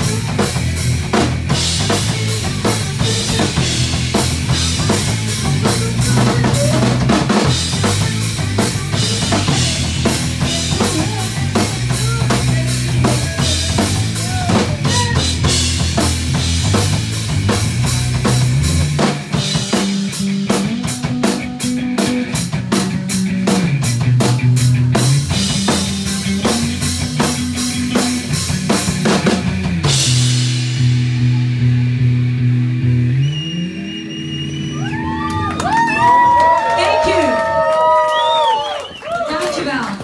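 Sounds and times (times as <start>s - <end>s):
drum kit pounding: 0.0s - 33.2s
electric guitar: 0.0s - 38.4s
bass guitar line: 0.0s - 39.6s.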